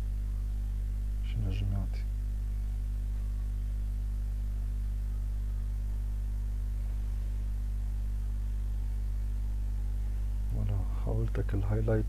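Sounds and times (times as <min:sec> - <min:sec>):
faint hiss: 0:00.0 - 0:12.0
low electrical mains hum: 0:00.0 - 0:12.0.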